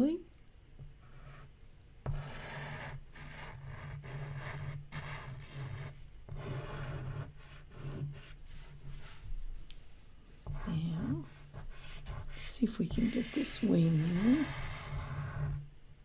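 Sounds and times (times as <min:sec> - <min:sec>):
chalk pastel scraping paper: 0:01.0 - 0:15.6.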